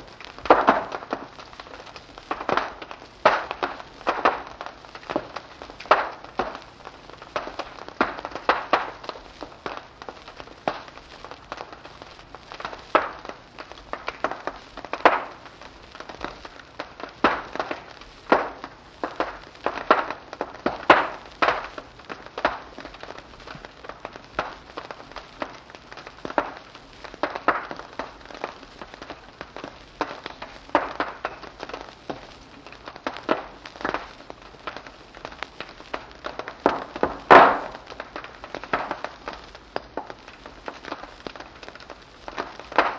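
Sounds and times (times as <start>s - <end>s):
faint hiss: 0.0s - 42.9s
wood fire crackling: 0.0s - 42.9s.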